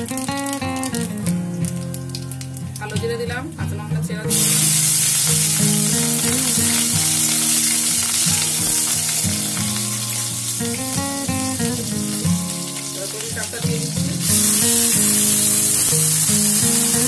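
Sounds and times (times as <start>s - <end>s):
background music melody: 0.0s - 17.0s
chillies sizzling in hot oil: 0.0s - 17.0s.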